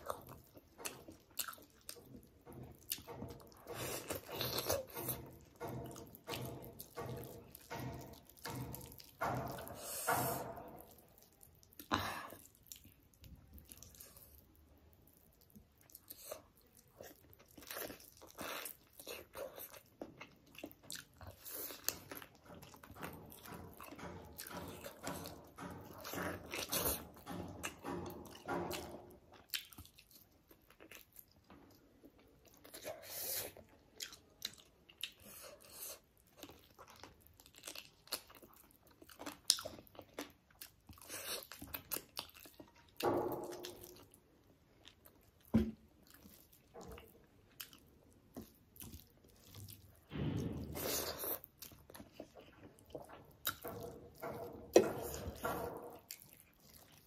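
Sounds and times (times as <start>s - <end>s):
chewing and biting food: 0.0s - 57.0s.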